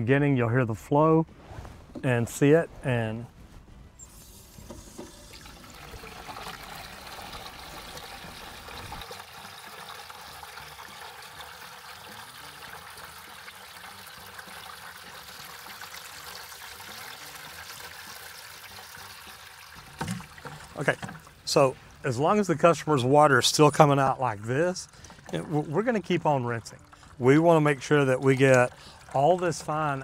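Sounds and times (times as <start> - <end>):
hose water filling plastic bucket: 4.0 - 30.0.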